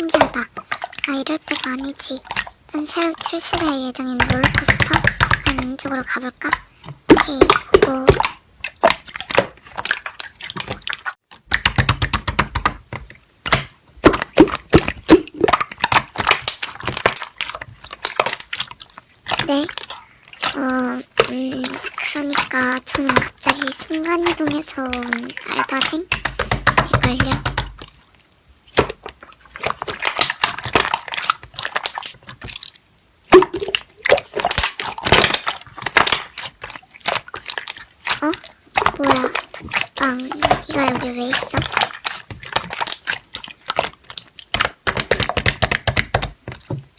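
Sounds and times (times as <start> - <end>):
slime crackling and popping: 0.1 - 46.8.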